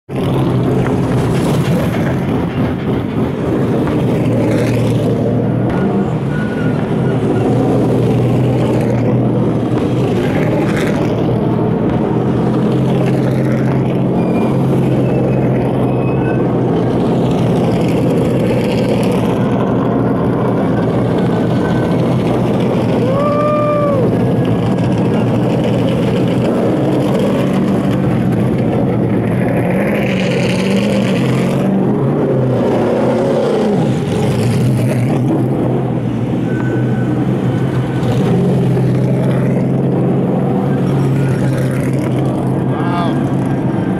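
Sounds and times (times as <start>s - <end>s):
race truck engines running: 0.1s - 43.9s.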